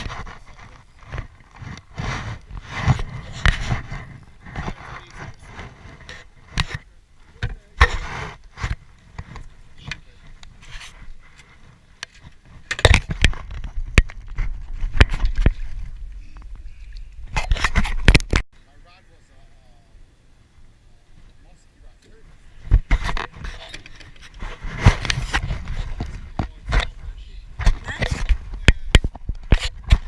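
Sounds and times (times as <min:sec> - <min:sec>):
scrapes: 0:00.0 - 0:18.4, 0:22.2 - 0:30.0.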